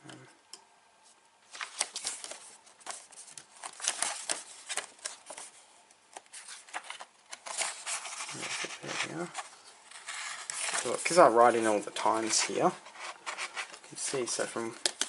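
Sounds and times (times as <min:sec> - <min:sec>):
paper pages rustling and crackling: 0:01.5 - 0:15.0.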